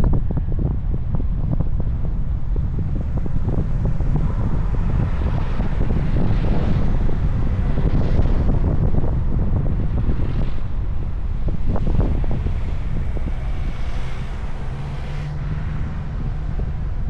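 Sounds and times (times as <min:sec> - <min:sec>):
road and engine rumble: 0:00.0 - 0:17.0
wind buffeting microphone: 0:00.0 - 0:17.0.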